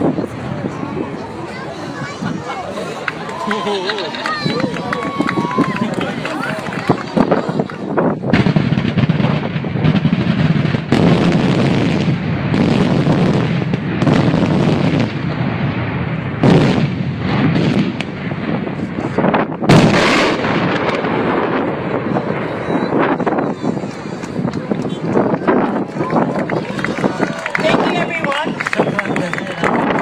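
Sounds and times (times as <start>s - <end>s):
fireworks bangs and booms: 4.2s - 30.0s.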